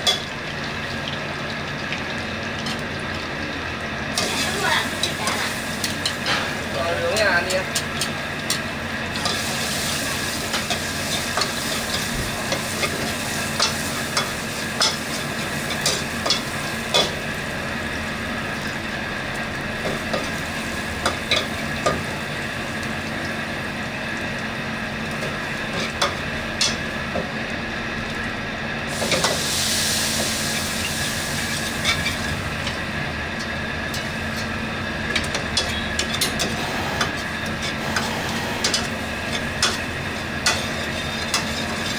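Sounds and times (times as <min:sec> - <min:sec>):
food sizzling in oil: 0:00.0 - 0:28.0, 0:28.6 - 0:41.9.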